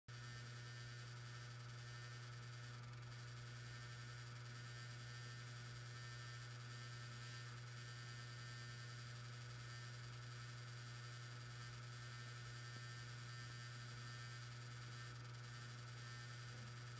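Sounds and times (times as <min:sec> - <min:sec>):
hard disk drive humming: 0:00.1 - 0:16.9.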